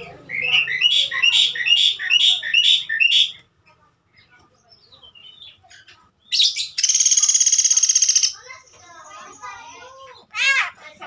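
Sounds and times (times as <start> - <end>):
myna bird calling: 0.0 - 3.5, 4.2 - 10.4.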